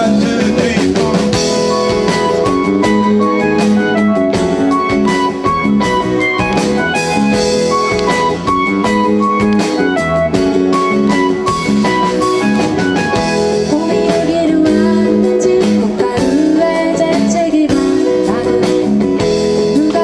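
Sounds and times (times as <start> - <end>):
drums: 0.0 - 20.0
guitar: 0.0 - 20.0
keyboard: 0.0 - 20.0.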